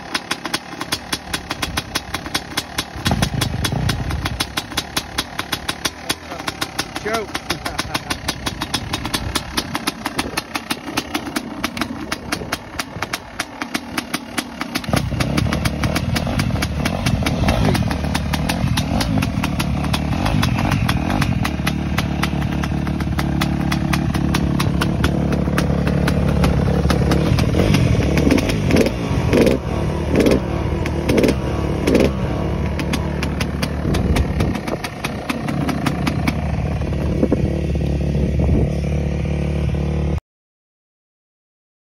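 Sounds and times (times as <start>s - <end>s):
engine revving: 0.0s - 40.2s
two-stroke engine running: 0.0s - 40.2s.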